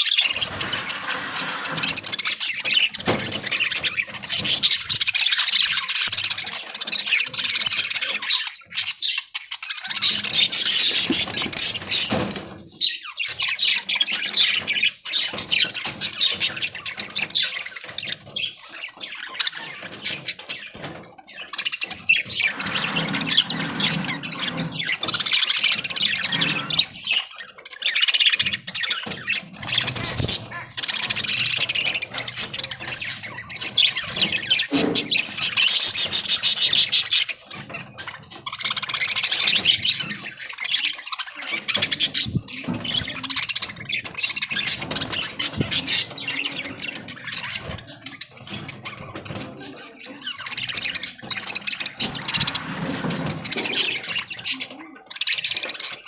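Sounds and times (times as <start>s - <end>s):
budgerigars chattering and chirping: 0.0s - 56.0s.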